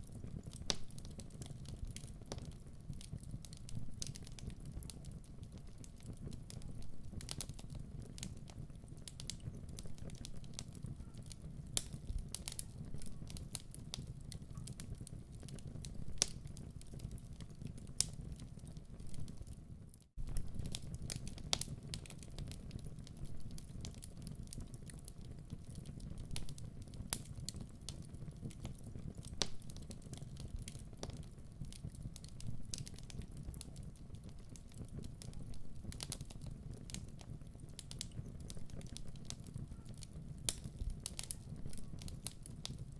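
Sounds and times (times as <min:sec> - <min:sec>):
logs crackling and popping: 0:00.0 - 0:42.9
low rumble of flames: 0:00.0 - 0:42.9.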